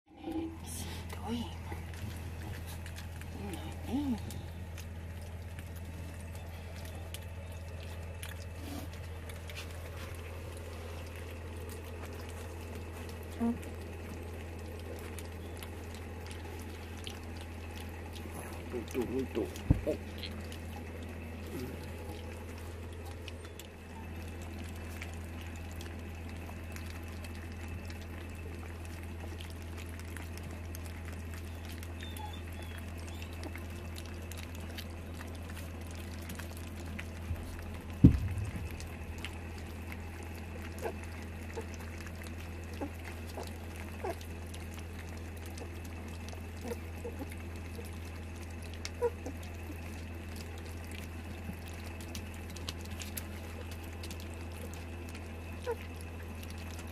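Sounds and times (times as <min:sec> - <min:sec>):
puppies lapping and slurping: 0:00.1 - 0:56.9
steady low hum: 0:00.1 - 0:56.9.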